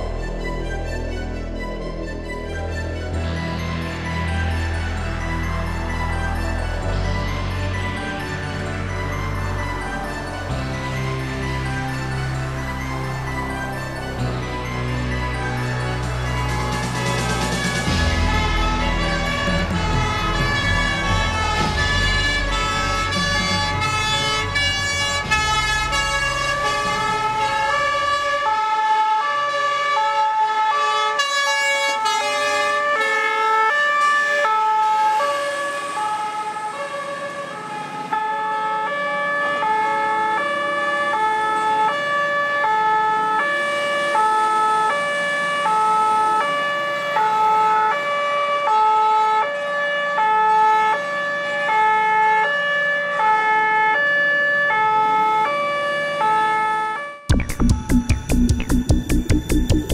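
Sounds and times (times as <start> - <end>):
fire engine two-tone siren: 0.0 - 57.3.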